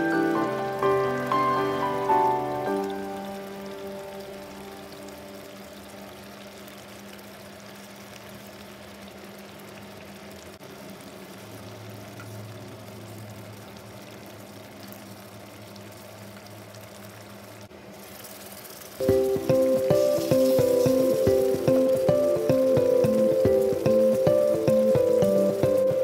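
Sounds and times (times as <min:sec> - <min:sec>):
sauce bubbling in a wok: 0:02.9 - 0:25.8.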